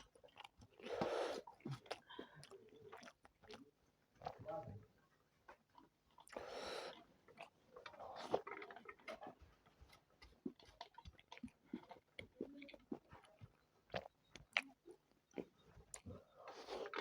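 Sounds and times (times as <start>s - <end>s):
close chewing with mouth smacks: 0.0s - 4.8s, 5.4s - 17.0s.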